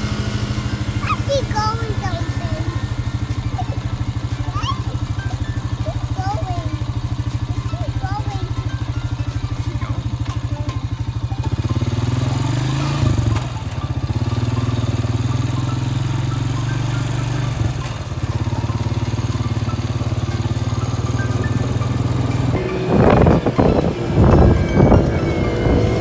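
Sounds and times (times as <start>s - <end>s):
music playing: 0.0s - 14.1s, 14.8s - 26.0s
motorbike engine running: 0.0s - 26.0s.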